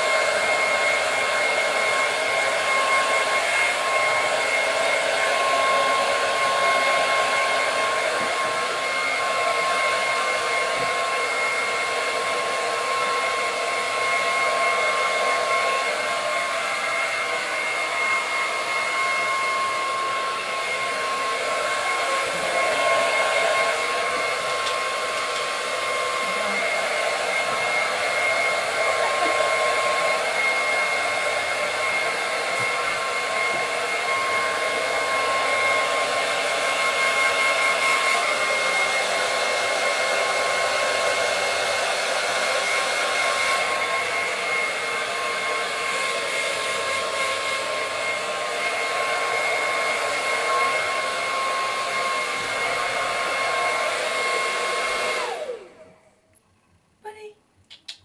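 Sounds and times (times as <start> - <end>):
hair dryer running: 0.0 - 56.3.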